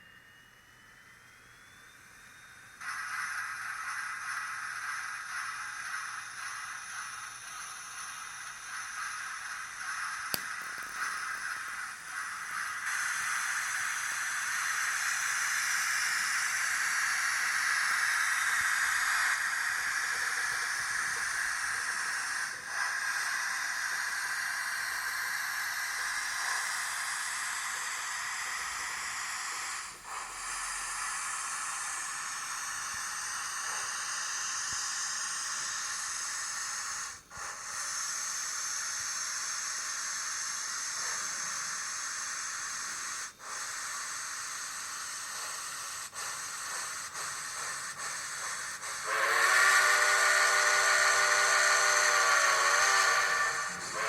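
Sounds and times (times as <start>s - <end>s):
steam hiss: 1.0s - 54.0s.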